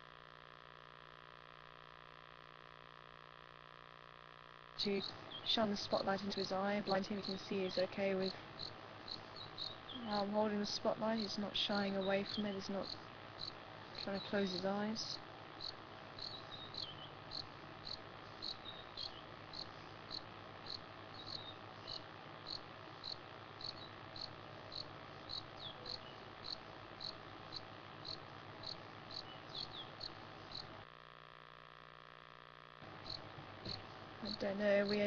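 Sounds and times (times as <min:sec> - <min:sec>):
steady low hum: 0:00.0 - 0:35.0
cricket chirping: 0:04.8 - 0:30.8, 0:32.9 - 0:35.0.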